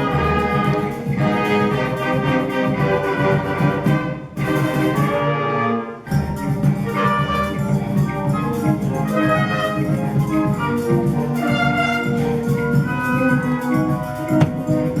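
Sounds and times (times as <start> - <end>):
concert band playing: 0.0 - 5.4, 6.1 - 15.0.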